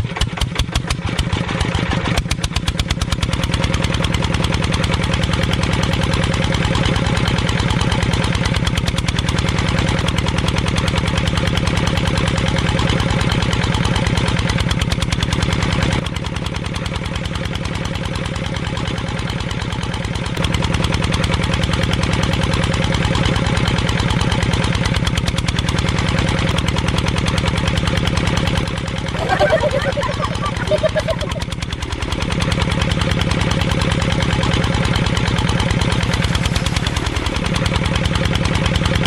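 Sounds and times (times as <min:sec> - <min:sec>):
small engine puttering: 0:00.0 - 0:39.0.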